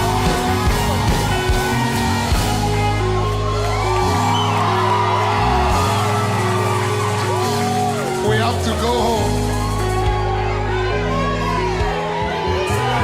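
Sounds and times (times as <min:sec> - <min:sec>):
crowd shouting and singing: 0:00.0 - 0:13.0
live worship band music: 0:00.0 - 0:13.0.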